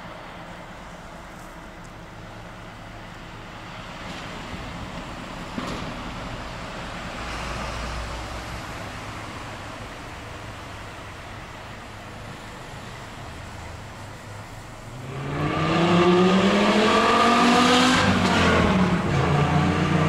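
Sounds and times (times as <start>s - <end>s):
locomotive engine drone: 0.0s - 20.0s.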